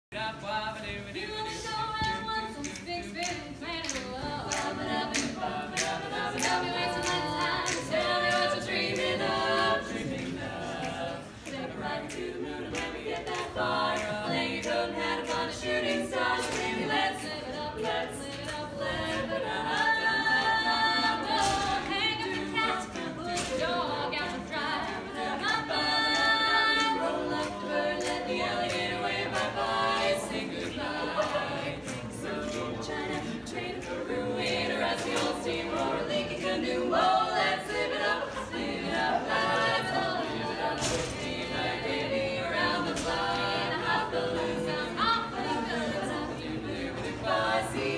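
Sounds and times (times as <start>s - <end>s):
women singing a cappella: 0.1s - 47.9s.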